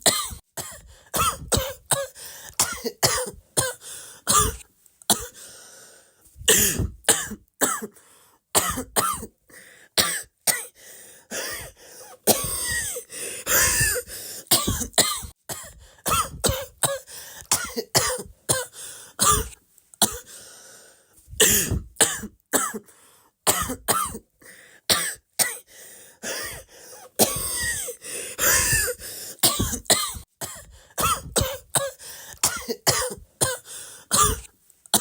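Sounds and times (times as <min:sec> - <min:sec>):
person coughing: 0:00.0 - 0:05.4, 0:06.4 - 0:08.0, 0:08.6 - 0:09.4, 0:10.0 - 0:20.4, 0:21.4 - 0:22.9, 0:23.5 - 0:24.2, 0:24.9 - 0:35.0.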